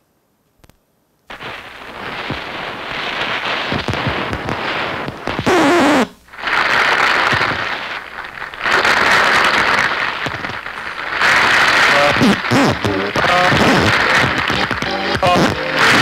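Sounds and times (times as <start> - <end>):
record surface crackle and hiss: 0.0 - 16.0.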